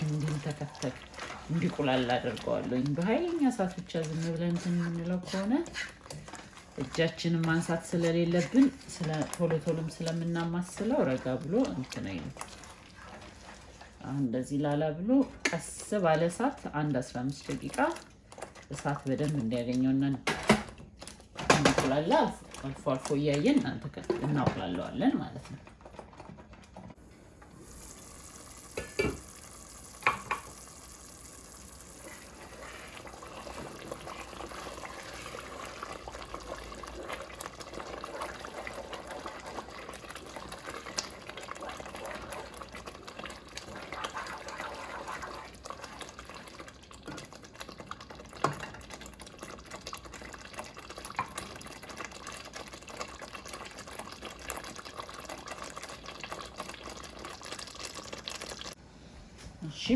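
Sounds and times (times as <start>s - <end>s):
thick sauce bubbling in pot: 0.0s - 26.6s, 27.4s - 58.8s
wooden spoon stirring: 0.0s - 27.0s, 27.9s - 58.8s.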